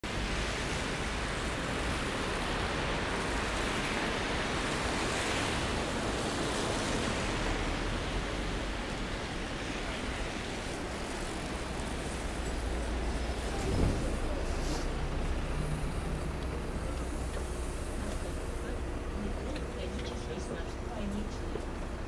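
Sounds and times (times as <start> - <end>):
bus cabin rumble and hiss: 0.0 - 22.0.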